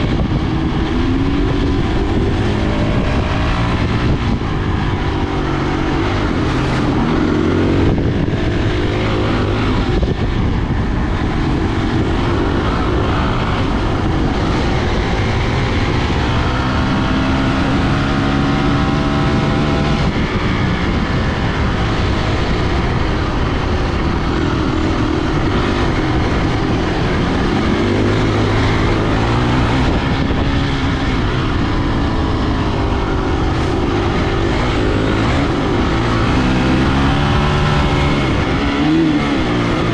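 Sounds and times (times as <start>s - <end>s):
constant rushing noise: 0.0s - 39.9s.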